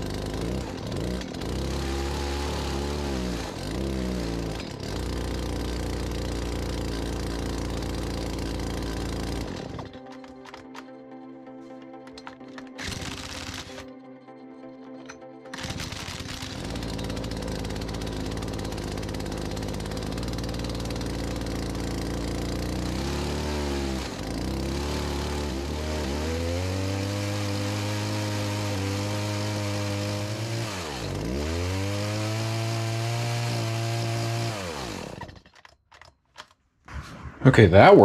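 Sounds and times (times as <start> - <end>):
chainsaw engine running unevenly: 0.0 - 10.9, 11.7 - 14.0, 14.8 - 36.1.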